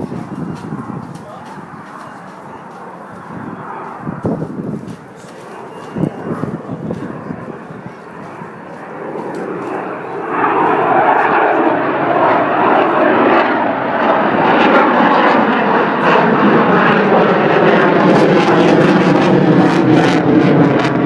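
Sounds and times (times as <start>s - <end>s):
airplane engine roar: 0.0s - 21.0s.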